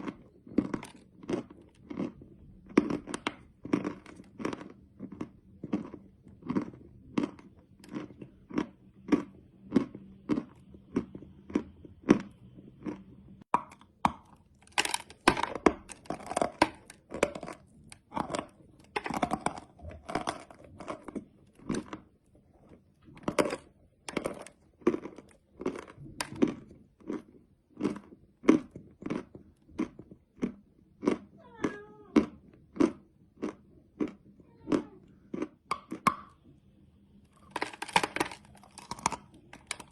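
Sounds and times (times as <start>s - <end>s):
chewing crunchy candy: 0.0s - 39.9s.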